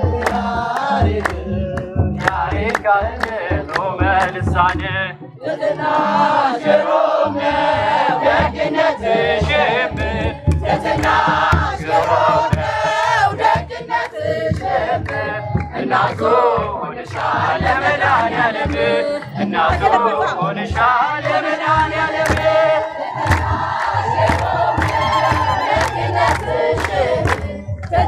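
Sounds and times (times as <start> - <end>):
crowd singing a hymn: 0.0 - 28.0
drum beaten in steady rhythm: 0.0 - 28.0.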